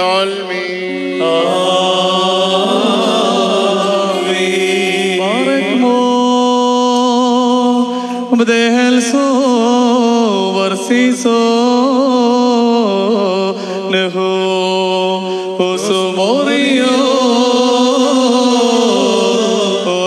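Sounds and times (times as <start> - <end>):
liturgical chant voices: 0.0 - 20.0.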